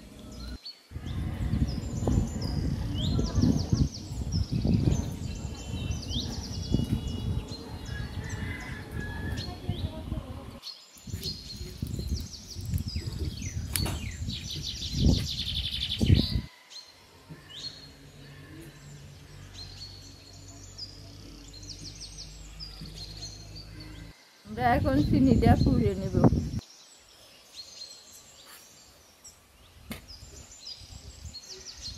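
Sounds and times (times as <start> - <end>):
low rumbling noise: 0.0 - 16.5, 17.1 - 26.6
small birds chirping: 0.0 - 31.9.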